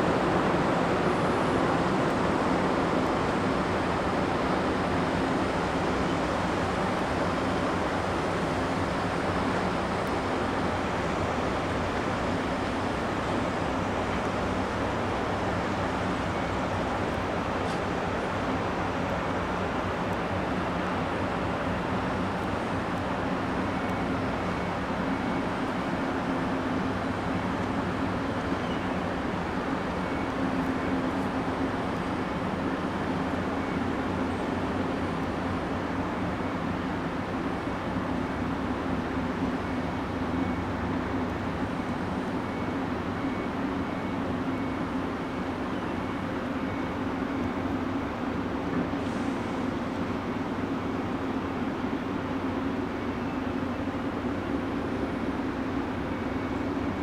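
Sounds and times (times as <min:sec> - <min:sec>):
ferry engine drone: 0:00.0 - 0:57.0.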